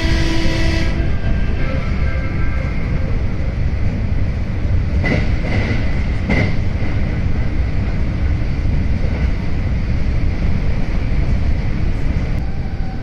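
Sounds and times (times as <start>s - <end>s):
train wheels and air rumbling: 0.0s - 13.0s.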